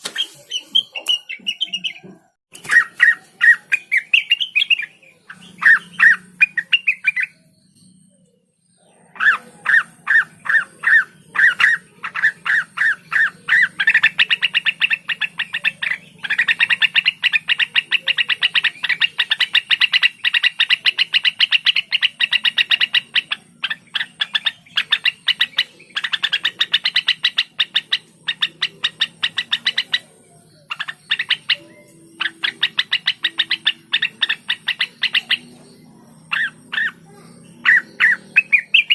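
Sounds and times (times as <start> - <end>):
bird singing repeated notes: 0.0 - 38.9.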